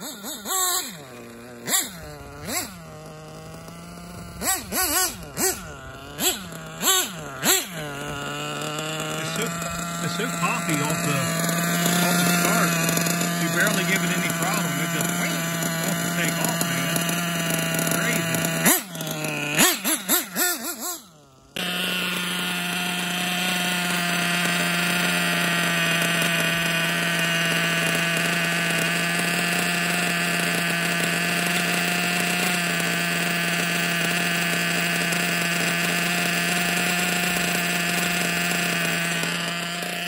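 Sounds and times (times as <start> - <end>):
model nitro engine revving and idling: 0.0 - 40.0.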